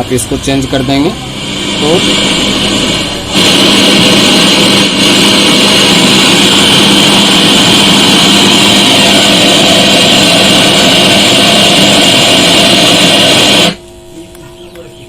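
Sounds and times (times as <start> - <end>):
loudspeaker hiss with low hum: 0.0 - 6.4, 8.9 - 15.0.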